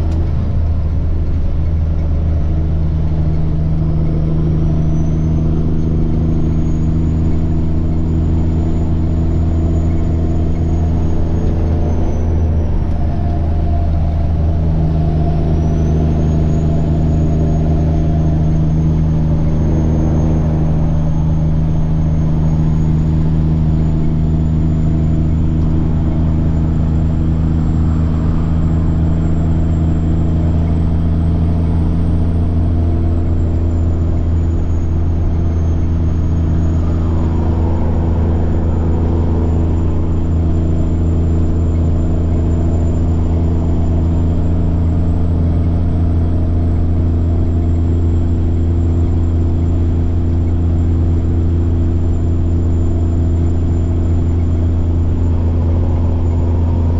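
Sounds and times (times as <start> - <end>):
diesel truck engine drone: 0.0 - 56.9
turbocharger whine: 0.0 - 56.9.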